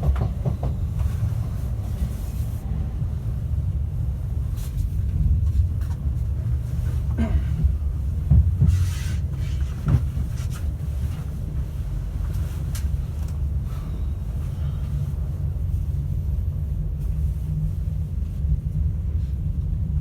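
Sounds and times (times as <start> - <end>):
train running rumble: 0.0 - 20.0.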